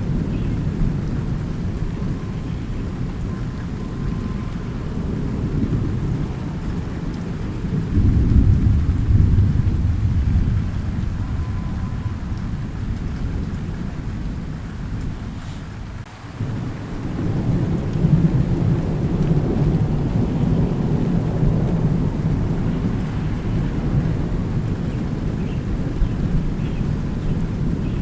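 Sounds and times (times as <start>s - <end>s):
deep rolling thunder: 0.0s - 28.0s
steady rain: 0.0s - 28.0s.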